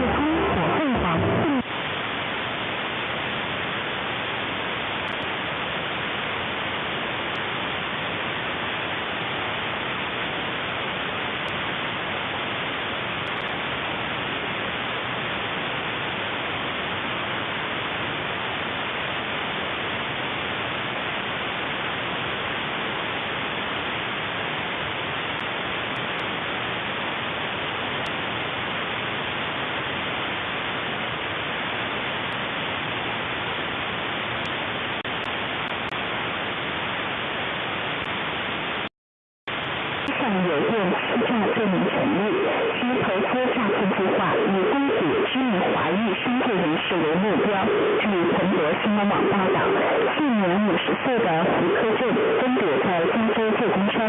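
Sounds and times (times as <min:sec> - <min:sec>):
radio static hiss: 0:00.0 - 0:38.9, 0:39.5 - 0:54.0.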